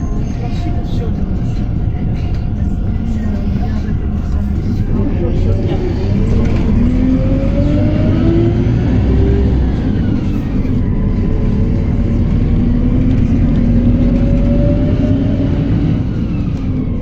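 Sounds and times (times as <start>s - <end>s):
bus diesel engine accelerating: 0.0s - 17.0s.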